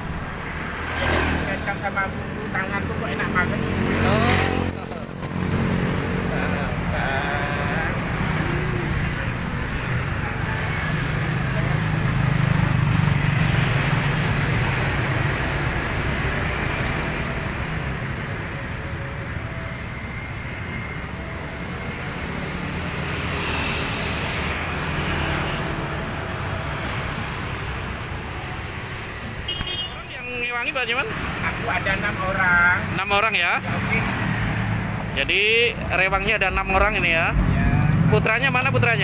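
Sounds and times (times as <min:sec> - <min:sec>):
road traffic going by: 0:00.0 - 0:39.0.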